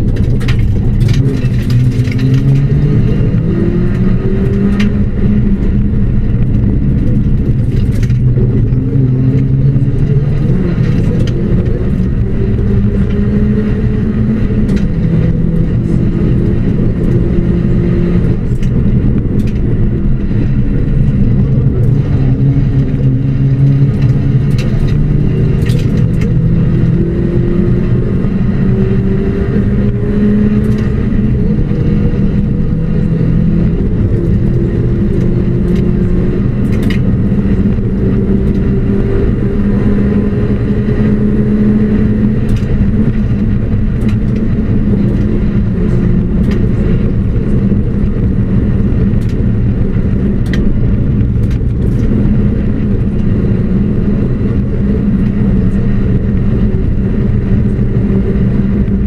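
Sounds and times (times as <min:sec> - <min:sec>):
rally car engine revving through gears: 0:00.0 - 0:59.0.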